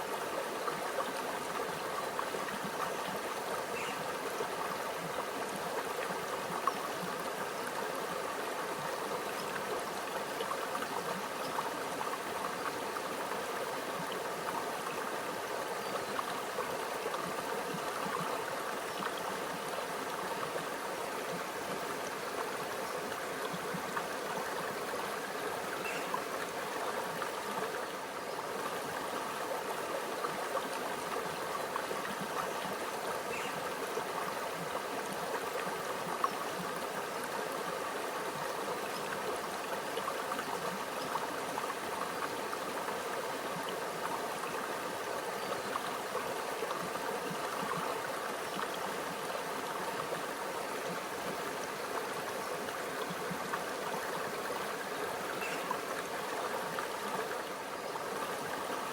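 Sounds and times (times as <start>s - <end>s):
stream trickling over stones: 0.0s - 58.9s.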